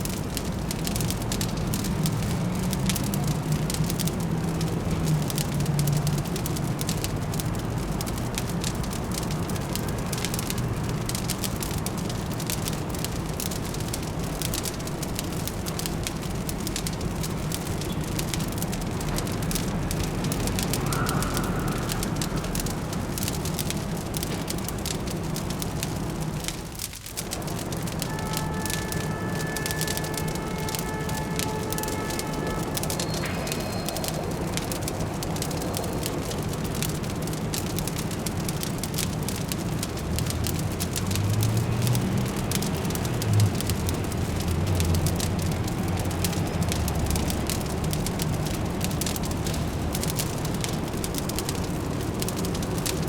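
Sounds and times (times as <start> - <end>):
distant city traffic hum: 0.0 - 53.0
fire crackling and popping: 0.0 - 53.0.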